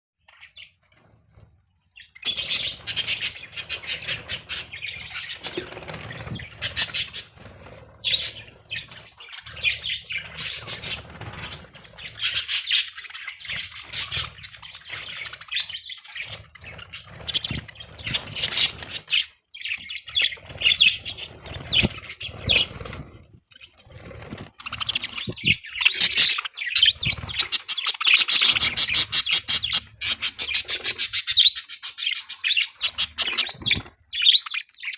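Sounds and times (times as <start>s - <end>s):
budgerigars chirping: 2.0s - 34.9s.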